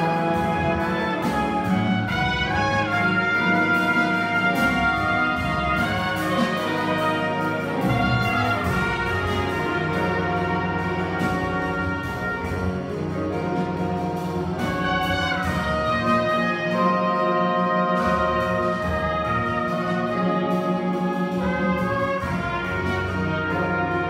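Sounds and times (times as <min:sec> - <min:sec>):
jazz big band playing: 0:00.0 - 0:24.0.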